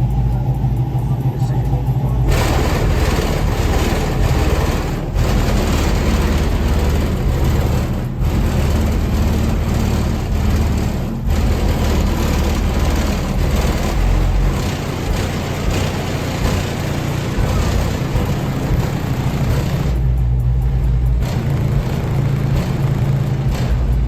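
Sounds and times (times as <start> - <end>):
heavy subwoofer bass music: 0.0 - 24.0
car trunk rattling: 0.4 - 20.2.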